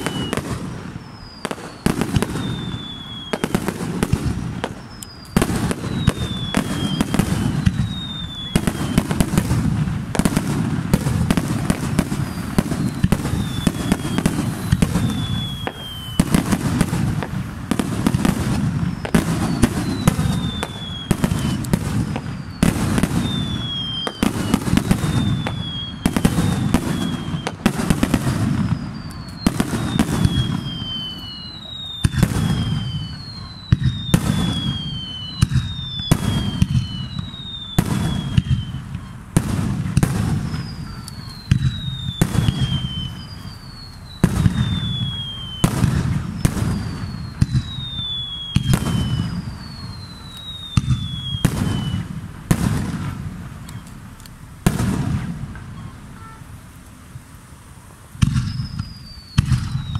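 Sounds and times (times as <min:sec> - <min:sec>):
falling firework whistles: 0:00.0 - 0:59.9
fireworks bursting with bangs: 0:00.0 - 0:59.9.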